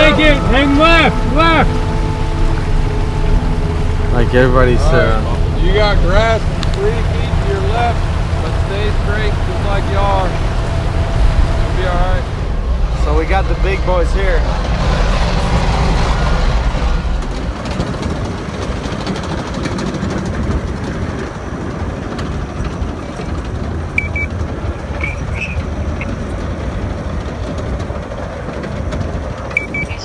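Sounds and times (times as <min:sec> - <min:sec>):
vehicles driving through floodwater: 0:00.0 - 0:30.0.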